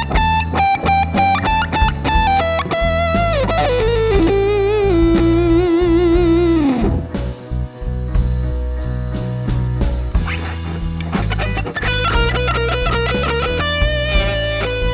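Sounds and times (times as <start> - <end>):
distorted electric guitar lead: 0.0 - 7.5, 10.2 - 14.9
blues backing track: 0.0 - 14.9.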